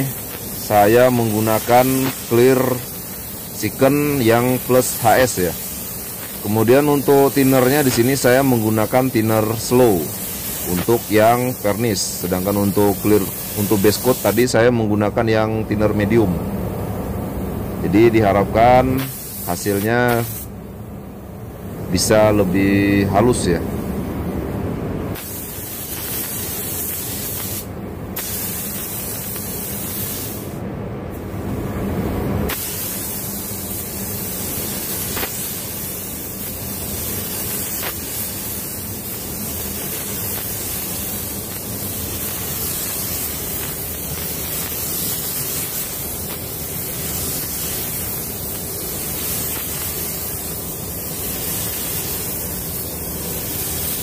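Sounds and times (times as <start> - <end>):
spray gun hissing: 0.0 - 14.6, 18.2 - 20.5, 25.1 - 30.6, 32.5 - 54.0.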